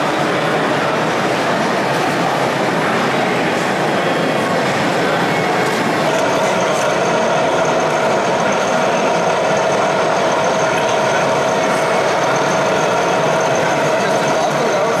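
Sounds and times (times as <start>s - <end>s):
exhibition hall crowd noise: 0.0s - 15.0s.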